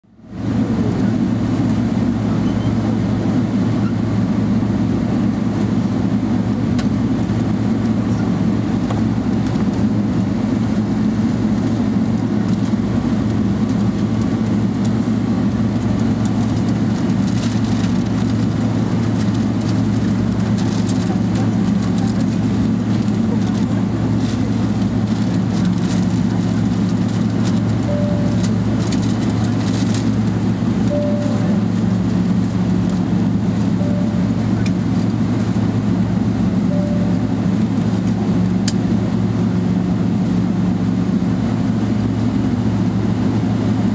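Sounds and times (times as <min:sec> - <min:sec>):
jet engines droning: 0:00.2 - 0:43.9.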